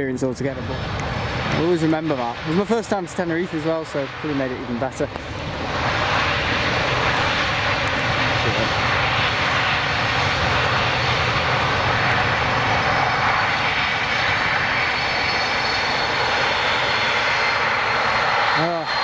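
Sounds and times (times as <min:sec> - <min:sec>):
jet engines running: 0:00.0 - 0:19.0.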